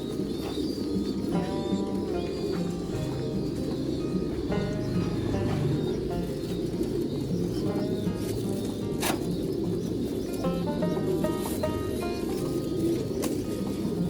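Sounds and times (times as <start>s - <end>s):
background music: 0.0s - 14.0s
pigeons cooing: 0.0s - 14.0s.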